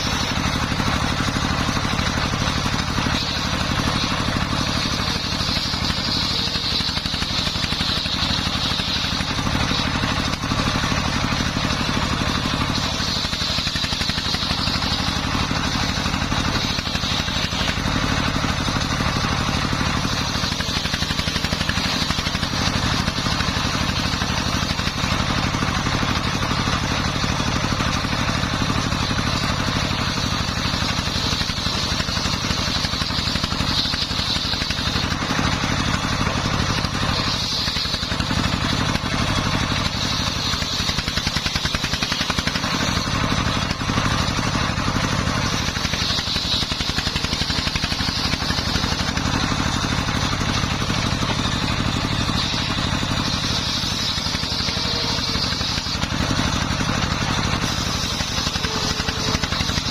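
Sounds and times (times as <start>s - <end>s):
diesel engine running: 0.0s - 59.9s
saw blade whine: 0.0s - 59.9s.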